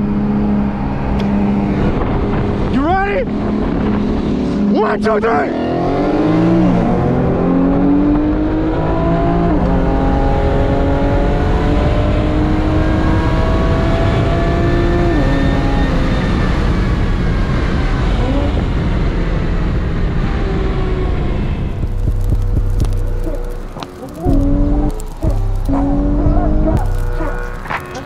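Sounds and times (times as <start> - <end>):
car engine at full throttle: 0.0 - 28.0.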